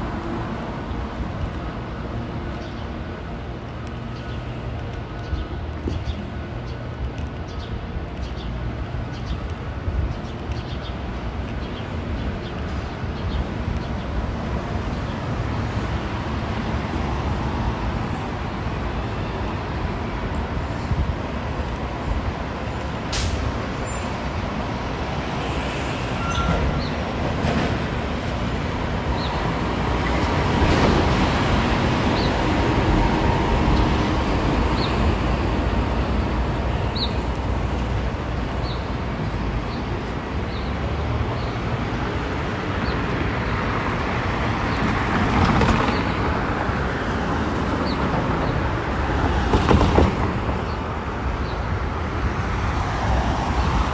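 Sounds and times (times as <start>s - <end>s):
city traffic rumble: 0.0s - 53.9s.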